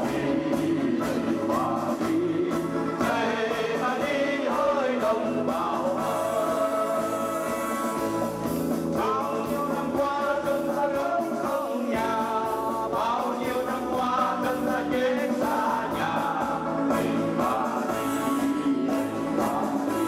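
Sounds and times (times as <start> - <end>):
instrumental accompaniment: 0.0 - 20.0
men singing together: 0.0 - 20.0.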